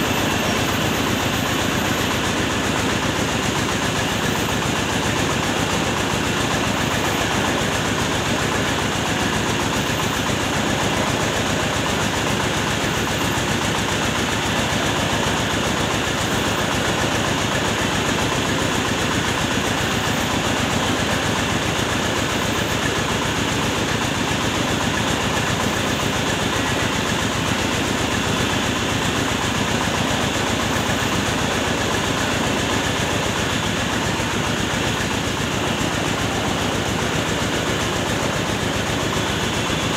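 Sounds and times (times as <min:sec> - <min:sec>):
rice mill machinery running: 0:00.0 - 0:39.9.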